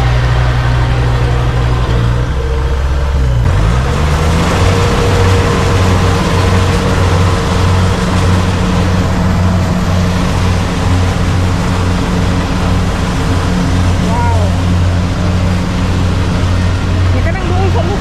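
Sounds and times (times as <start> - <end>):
harvester engine running: 0.0 - 18.0.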